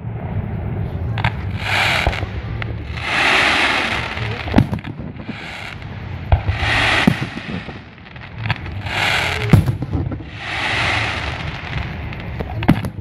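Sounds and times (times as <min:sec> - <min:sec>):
steady low rumble: 0:00.0 - 0:13.0
fireworks bangs: 0:00.5 - 0:13.0
fireworks hissing: 0:00.8 - 0:13.0.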